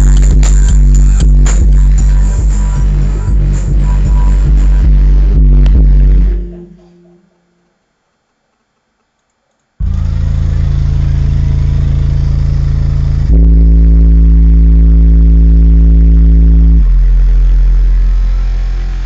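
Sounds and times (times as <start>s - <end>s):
deep synthesized bass notes: 0.0s - 7.3s, 9.8s - 19.0s.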